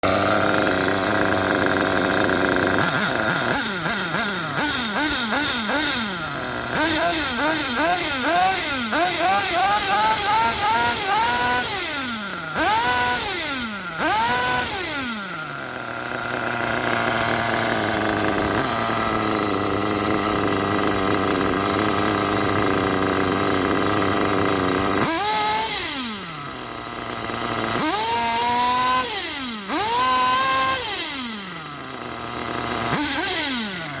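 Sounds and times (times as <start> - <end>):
nitro engine revving and idling: 0.0 - 34.0.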